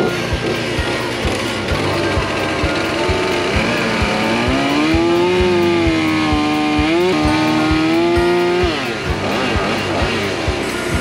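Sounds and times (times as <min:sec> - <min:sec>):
background music with beat: 0:00.0 - 0:11.0
chainsaw revving and cutting: 0:00.0 - 0:11.0.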